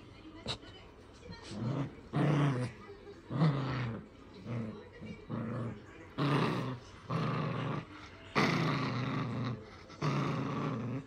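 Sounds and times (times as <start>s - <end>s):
puppy growling in play: 1.4s - 11.0s.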